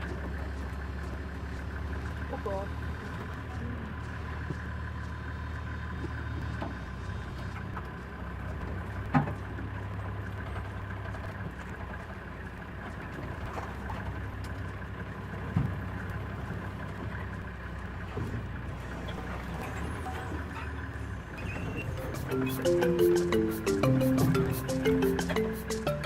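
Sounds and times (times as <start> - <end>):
vehicle engine idling: 0.0 - 22.6.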